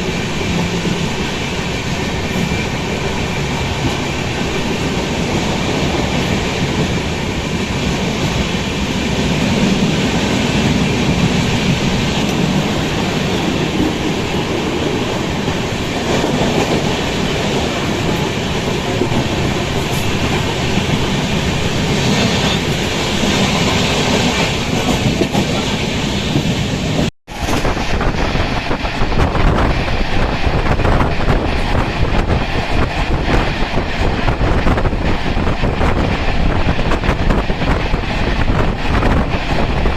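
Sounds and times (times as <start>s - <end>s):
train rumbling on rails: 0.0s - 39.9s
wind rush: 0.0s - 39.9s.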